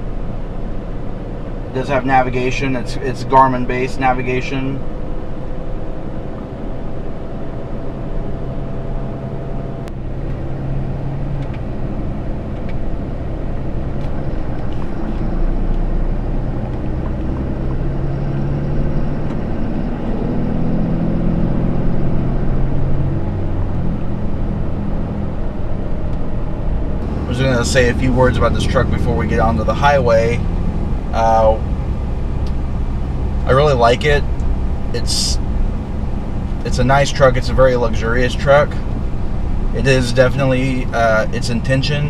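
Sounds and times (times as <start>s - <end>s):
diesel truck engine: 0.0s - 42.0s
tyre and road noise: 0.0s - 42.0s.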